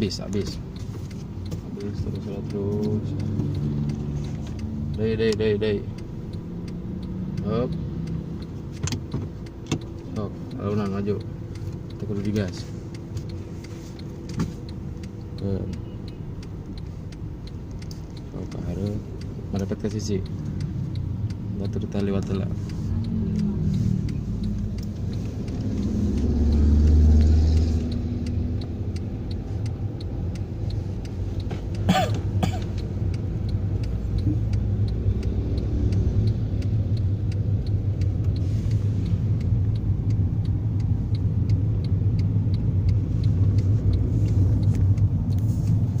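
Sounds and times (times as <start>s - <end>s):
car engine rumbling: 0.0s - 46.0s
faint regular ticking: 0.0s - 46.0s.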